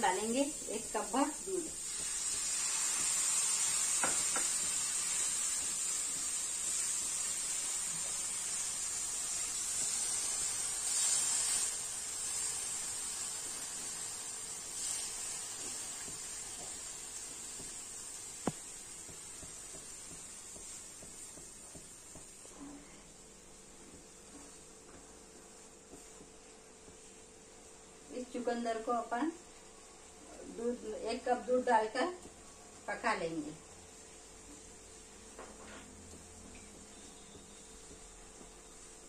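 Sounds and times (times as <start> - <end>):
milk sizzling in a hot pan: 0.0 - 39.0.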